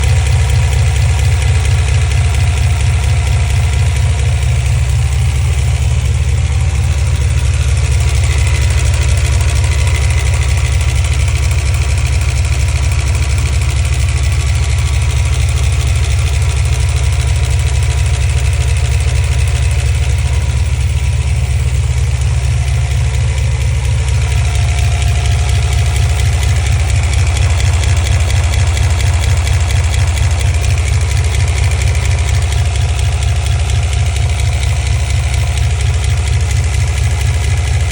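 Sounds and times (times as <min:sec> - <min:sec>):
car engine idling: 0:00.0 - 0:37.9
engine lifter ticking: 0:00.0 - 0:37.9.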